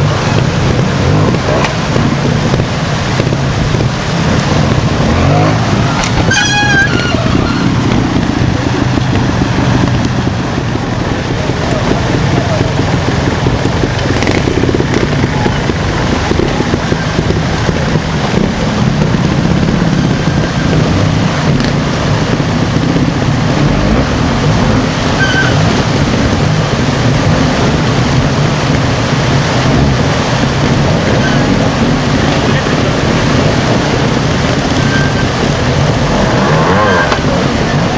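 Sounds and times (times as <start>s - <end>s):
fast-flowing stream water: 0.0s - 37.9s
motorcycle engine running: 0.0s - 37.9s.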